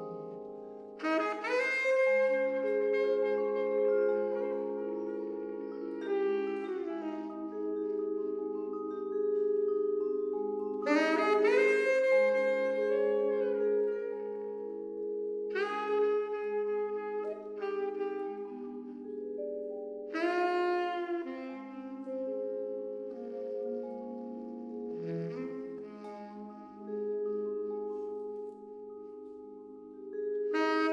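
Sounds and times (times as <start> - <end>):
saxophone held notes: 0.0 - 30.9
vibraphone chords: 0.0 - 30.9.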